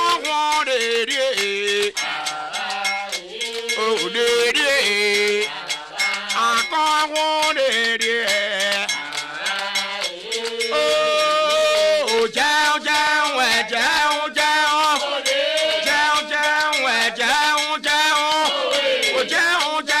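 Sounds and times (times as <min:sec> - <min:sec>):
regular percussion strokes: 0:00.0 - 0:20.0.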